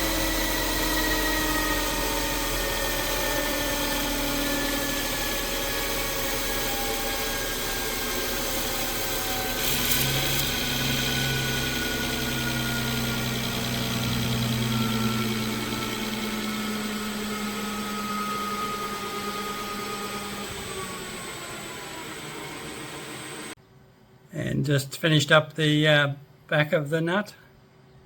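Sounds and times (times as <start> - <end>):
metal lathe whining: 0.0 - 23.6.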